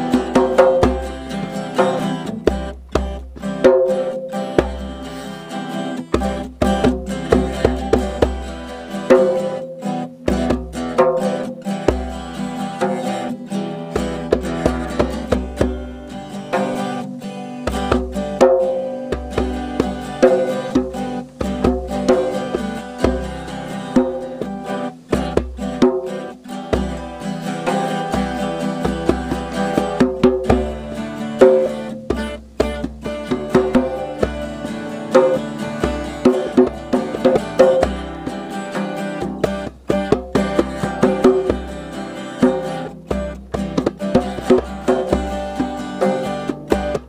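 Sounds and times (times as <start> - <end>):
acoustic guitar strummed and picked: 0.0 - 47.0
djembe bass strokes and slaps: 0.0 - 47.0.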